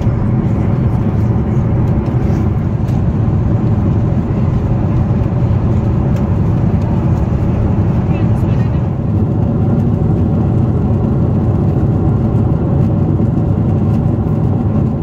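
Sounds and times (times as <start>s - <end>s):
airplane cabin engine roar: 0.0s - 15.0s.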